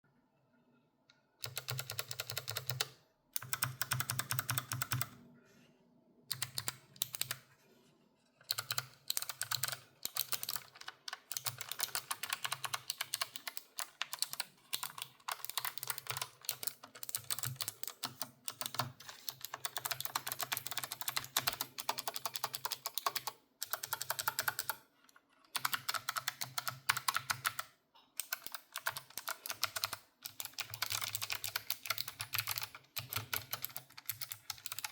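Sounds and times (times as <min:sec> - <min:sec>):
clicky keyboard typing: 0:01.4 - 0:05.2, 0:06.3 - 0:07.4, 0:08.5 - 0:24.8, 0:25.5 - 0:34.9.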